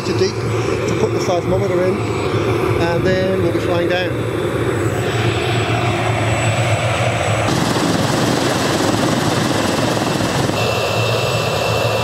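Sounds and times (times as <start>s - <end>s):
helicopter rotor beat: 0.0s - 12.0s
turbine whine: 0.0s - 12.0s.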